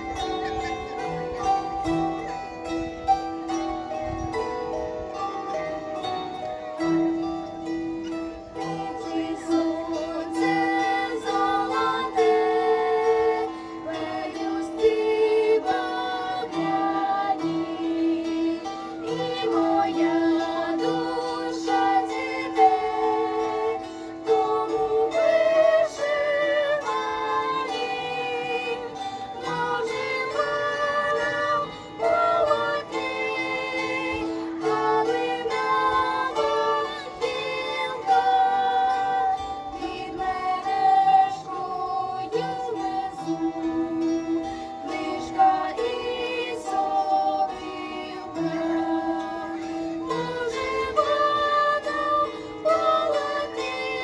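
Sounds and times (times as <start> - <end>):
plucked string ensemble: 0.0 - 54.0.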